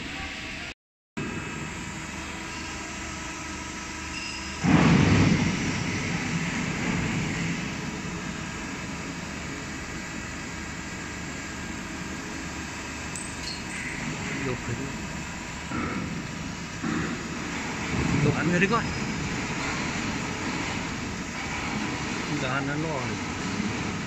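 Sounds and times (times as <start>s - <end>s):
industrial machinery humming: 0.0s - 24.0s.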